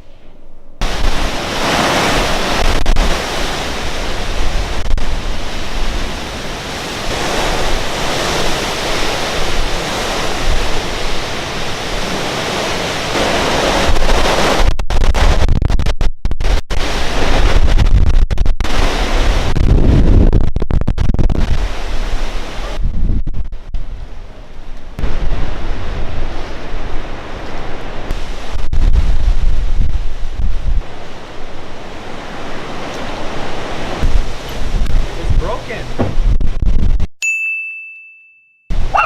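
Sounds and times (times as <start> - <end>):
wind blasting across microphone: 0.0 - 37.1, 38.7 - 39.0.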